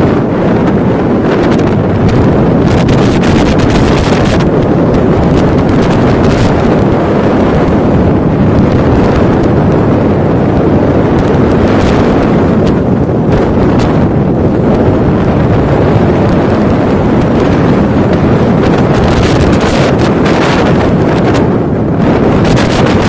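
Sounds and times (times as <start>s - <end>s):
heavy seas breaking along hull: 0.0s - 23.0s
wind buffeting microphone: 0.0s - 23.0s.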